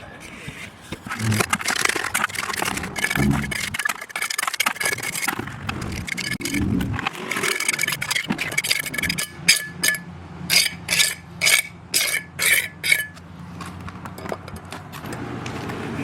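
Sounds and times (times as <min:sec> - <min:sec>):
hand tool scraping wet concrete: 0:00.2 - 0:13.2.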